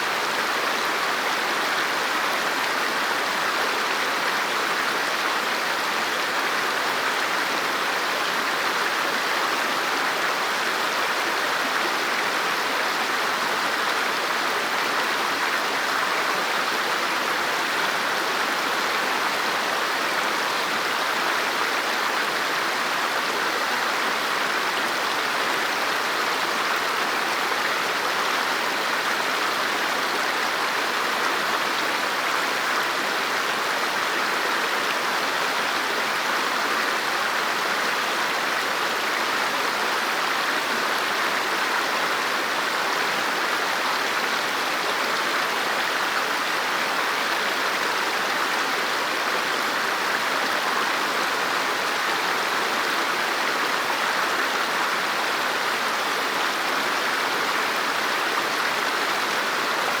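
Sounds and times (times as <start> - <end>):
river water flowing over rocks: 0.0 - 60.0.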